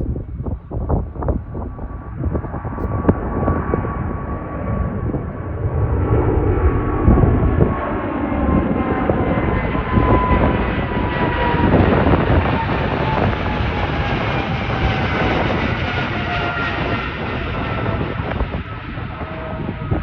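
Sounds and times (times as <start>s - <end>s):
jet engine whine: 0.0s - 20.0s
jet engines rumbling: 0.0s - 20.0s.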